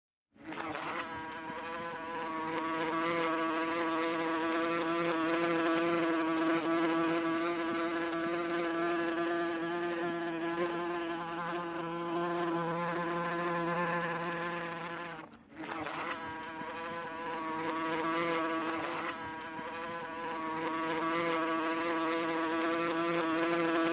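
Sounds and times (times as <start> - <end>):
wasp buzzing in flight: 0.4 - 23.9.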